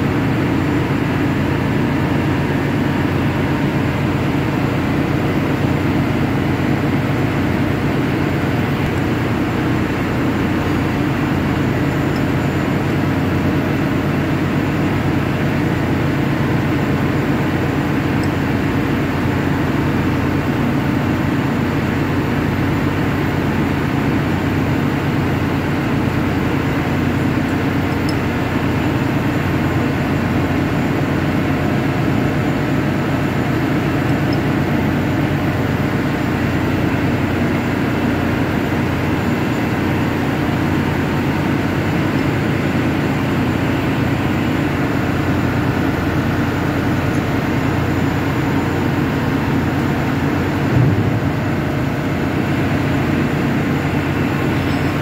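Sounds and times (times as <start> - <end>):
machinery low hum: 0.0 - 55.0.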